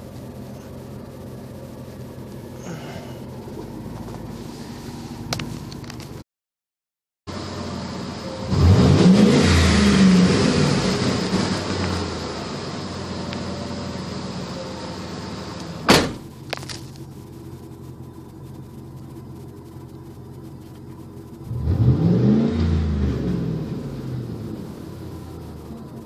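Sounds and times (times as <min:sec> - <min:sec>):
car engine idling: 0:00.0 - 0:06.2, 0:07.3 - 0:26.0.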